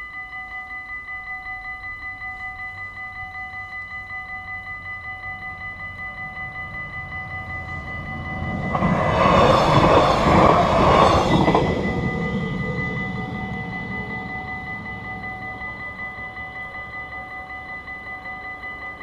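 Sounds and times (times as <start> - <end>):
level crossing bells ringing: 0.0 - 19.0
electric train passing: 0.2 - 19.0.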